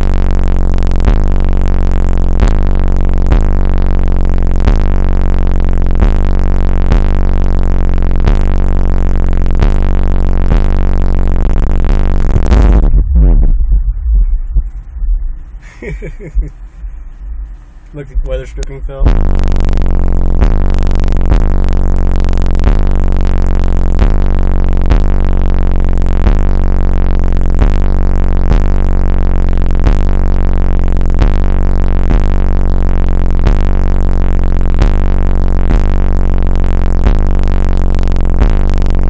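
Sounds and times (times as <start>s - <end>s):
bass-heavy electronic music: 0.0s - 39.0s.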